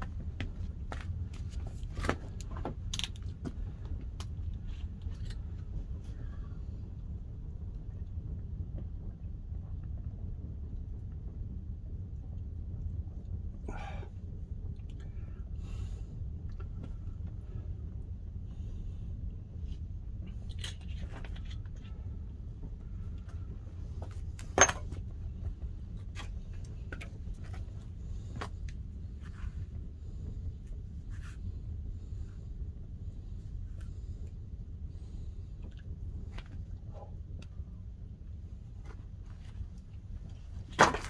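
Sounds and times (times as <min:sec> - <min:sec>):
fire crackling and popping: 0:00.0 - 0:41.0
low rumble of fire: 0:00.0 - 0:41.0.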